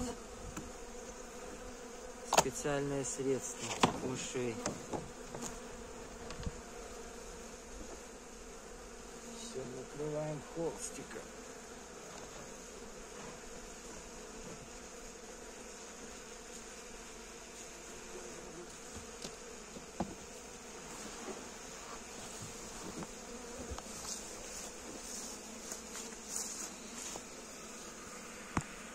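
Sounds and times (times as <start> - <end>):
honeybees buzzing: 0.0 - 28.9.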